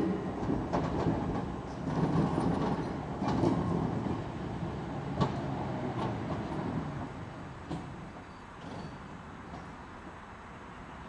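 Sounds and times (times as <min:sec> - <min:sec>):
wheels clicking on rails: 0:00.0 - 0:09.8
tram rumbling along track: 0:00.0 - 0:11.0.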